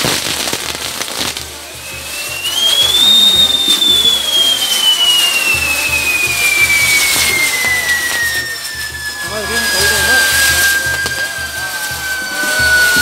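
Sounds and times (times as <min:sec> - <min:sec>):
firework hiss and crackles: 0:00.0 - 0:13.0
firework whistle: 0:00.0 - 0:13.0.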